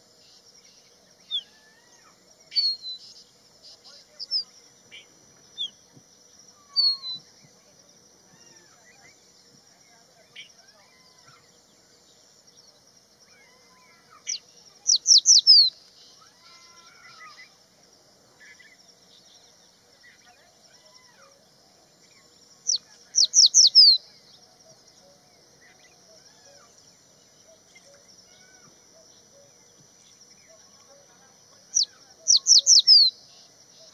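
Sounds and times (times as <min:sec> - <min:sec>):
bird singing: 0:00.0 - 0:33.9.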